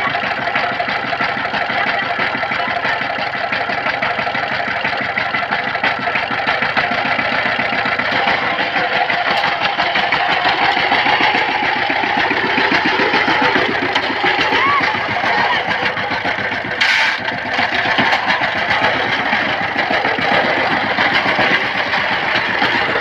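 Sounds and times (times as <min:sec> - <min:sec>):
diesel engine knocking: 0:00.0 - 0:23.0.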